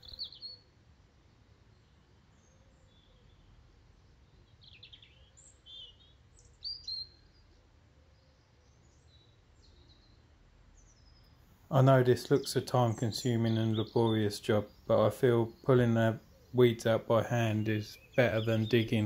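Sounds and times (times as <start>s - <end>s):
bird chirps: 0.0s - 0.7s, 1.7s - 19.0s.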